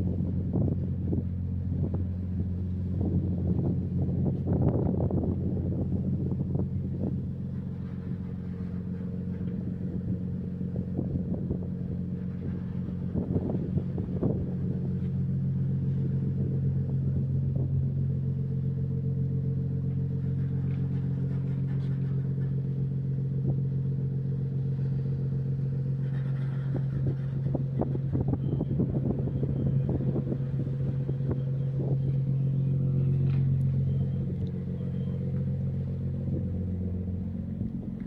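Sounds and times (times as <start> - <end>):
ship engine droning: 0.0 - 38.0.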